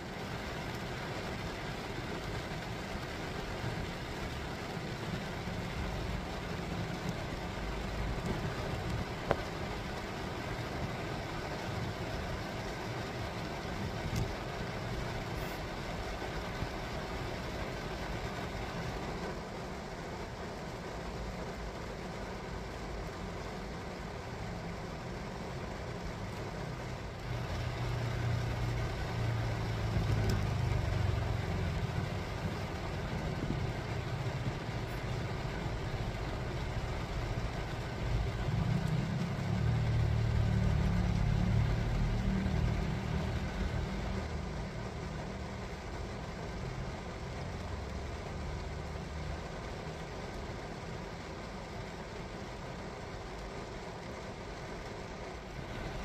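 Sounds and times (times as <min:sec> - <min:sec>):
heavy rain on car roof: 0:00.0 - 0:56.0
low vehicle rumble: 0:00.0 - 0:56.0.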